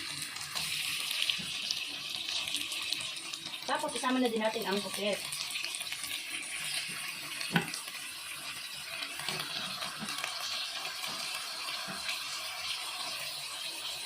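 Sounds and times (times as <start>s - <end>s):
seafood sizzling in a pan: 0.0s - 14.0s.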